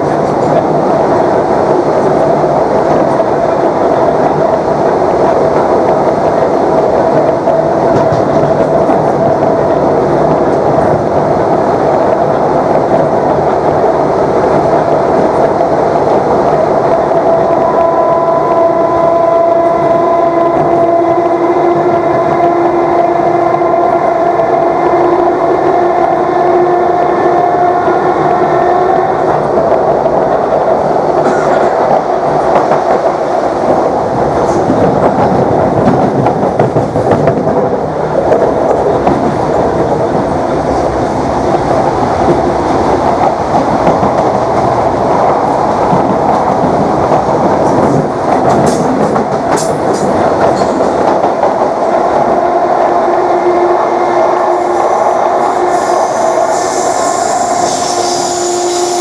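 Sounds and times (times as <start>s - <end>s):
electric train running noise: 0.0s - 59.0s.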